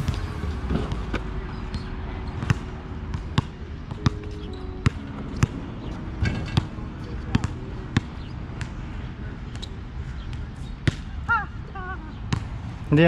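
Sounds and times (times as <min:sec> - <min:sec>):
steady low rumble: 0:00.0 - 0:11.3.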